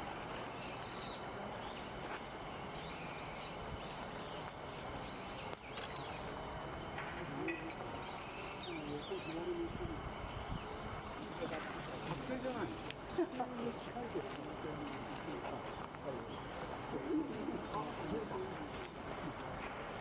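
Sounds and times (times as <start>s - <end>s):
birds chirping: 0.0s - 20.0s
outdoor background noise: 0.0s - 20.0s.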